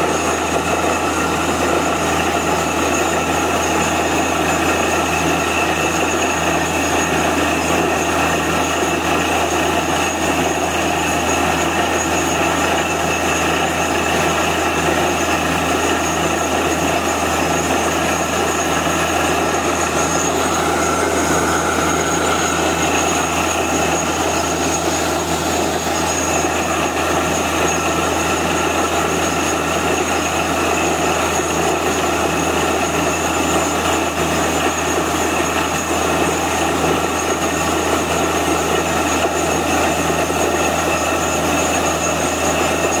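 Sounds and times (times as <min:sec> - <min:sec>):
drilling rig engine and drill: 0:00.0 - 0:43.0.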